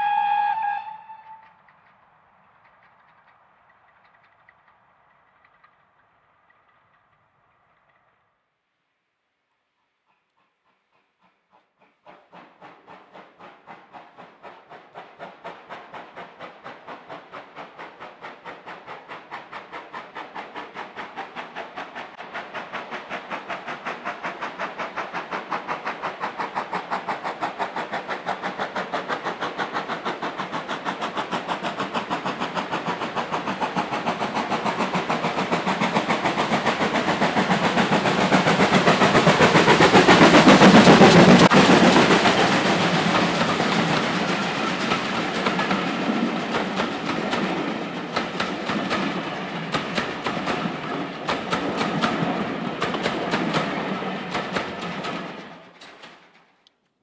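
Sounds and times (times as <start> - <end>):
steam locomotive exhaust beats: 0.0 - 8.1, 9.7 - 56.3
train wheels clicking over rails: 0.0 - 8.5, 9.5 - 56.7.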